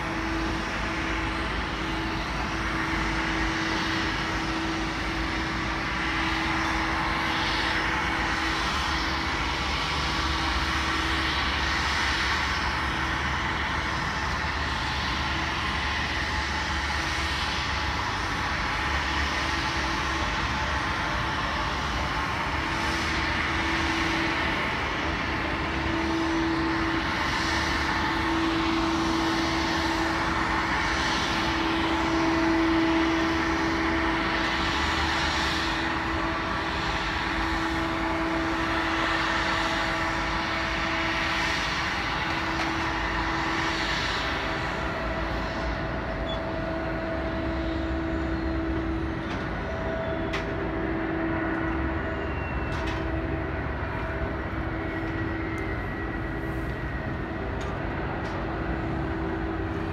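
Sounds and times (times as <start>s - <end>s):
jet engines running at low power: 0.0s - 59.9s.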